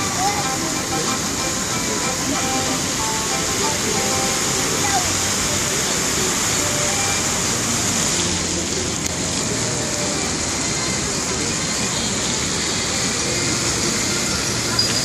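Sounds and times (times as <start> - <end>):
fountain jets spraying and splashing: 0.0 - 15.0.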